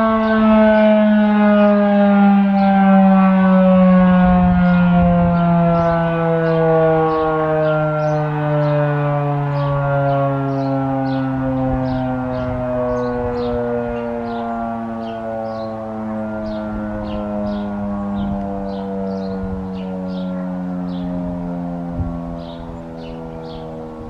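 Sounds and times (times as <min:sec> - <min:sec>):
warning siren steady tone: 0:00.0 - 0:24.0
wind rumbling on microphone: 0:03.0 - 0:24.0.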